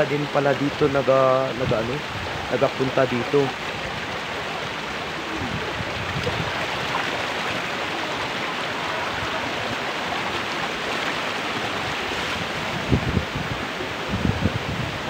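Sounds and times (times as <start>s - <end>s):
stream rushing over rock: 0.0s - 15.0s.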